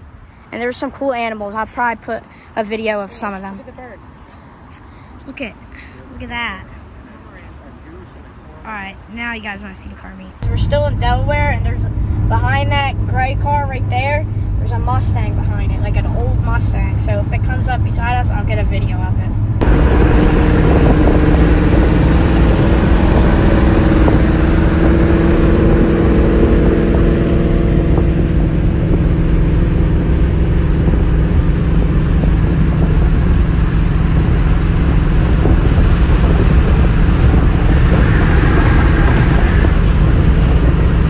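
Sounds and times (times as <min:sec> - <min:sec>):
highway traffic noise: 0:00.0 - 0:41.0.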